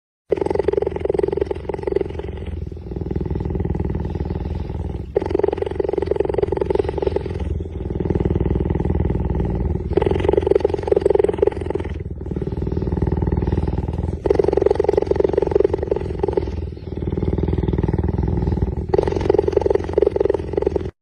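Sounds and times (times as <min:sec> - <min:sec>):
big cat growling: 0:00.3 - 0:21.0.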